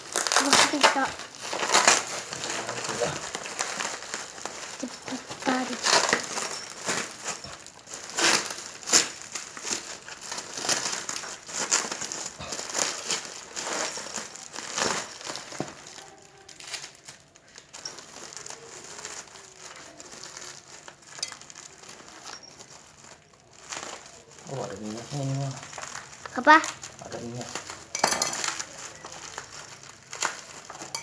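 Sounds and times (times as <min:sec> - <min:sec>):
packaging crinkling and tearing: 0:00.0 - 0:31.0.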